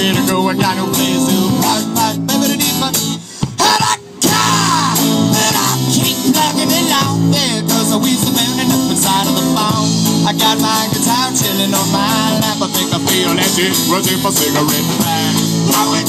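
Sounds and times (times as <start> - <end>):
guitar: 0.0 - 16.0
live rock band playing: 0.0 - 16.0.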